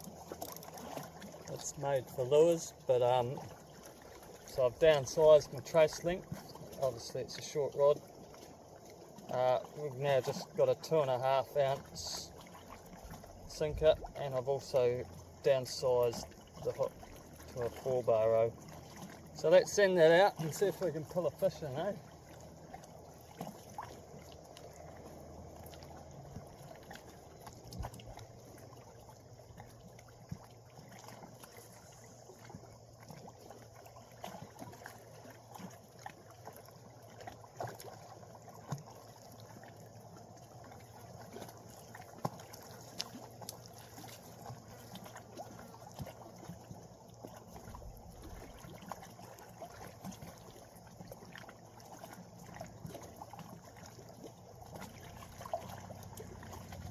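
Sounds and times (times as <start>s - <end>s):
water lapping and trickling: 0.0s - 56.9s.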